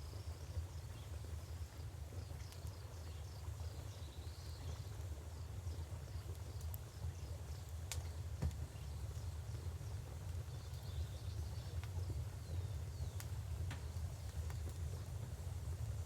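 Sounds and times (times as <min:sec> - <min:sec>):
wood fire crackling: 0:00.6 - 0:16.0.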